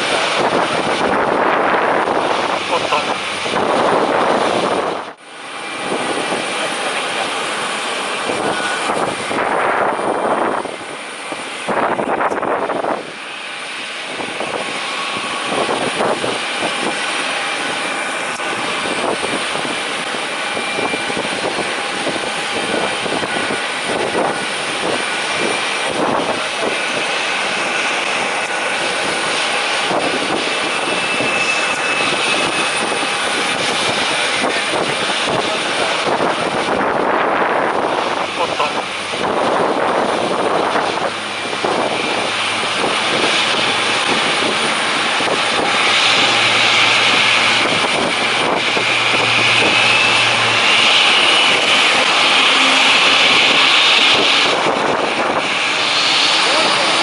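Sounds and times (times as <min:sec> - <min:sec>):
parked jet airliner whine: 0:00.0 - 0:57.0
wind buffeting microphone: 0:00.0 - 0:57.0.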